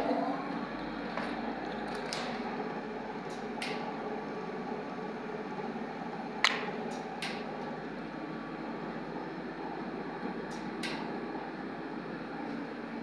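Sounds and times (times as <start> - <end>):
electric hoist motor humming: 0.0 - 13.0.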